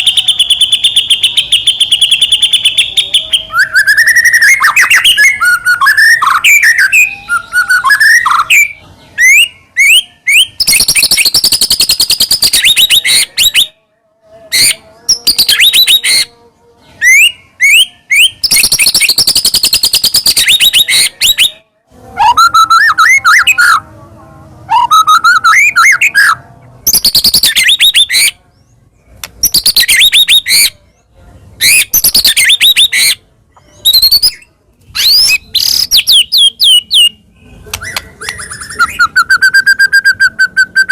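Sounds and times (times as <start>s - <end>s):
bird whistling song: 0.0s - 13.8s, 14.6s - 16.3s, 17.0s - 21.6s, 24.7s - 28.4s, 29.4s - 30.8s, 31.6s - 40.9s.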